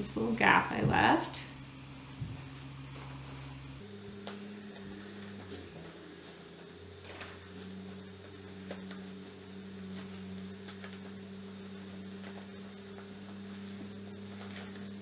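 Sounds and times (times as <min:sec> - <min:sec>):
low electrical hum: 0:00.0 - 0:15.0
fabric rustling: 0:01.8 - 0:15.0.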